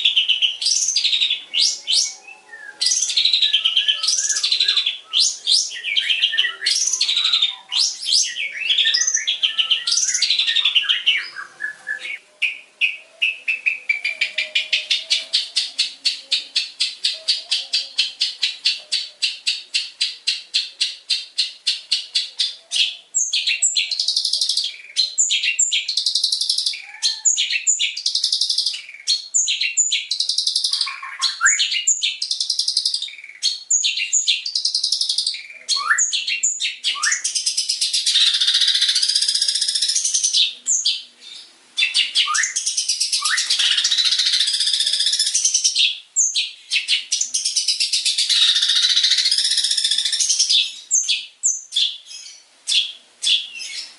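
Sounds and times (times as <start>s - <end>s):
shrike singing mimicked calls: 0.0s - 52.1s.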